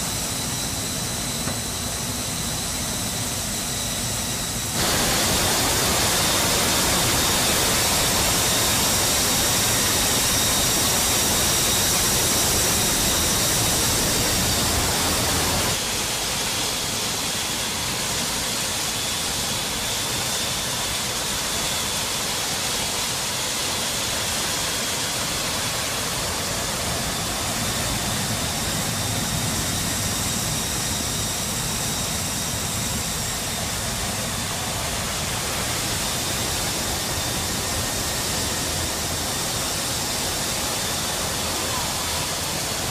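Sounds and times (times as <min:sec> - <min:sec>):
faint high engine whine: 0:00.0 - 0:42.9
turbofan engine noise: 0:00.0 - 0:42.9.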